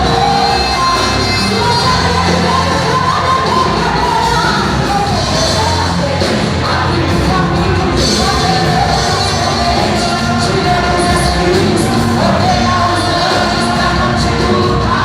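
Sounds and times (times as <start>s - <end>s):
person singing worship music: 0.0s - 15.0s.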